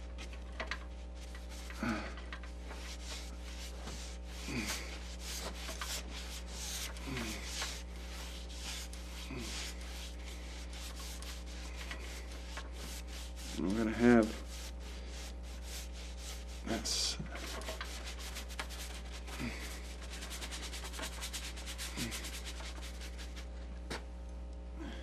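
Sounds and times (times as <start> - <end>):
steady low hum: 0.0 - 25.0
paintbrush strokes on canvas: 0.9 - 1.8, 2.6 - 23.5.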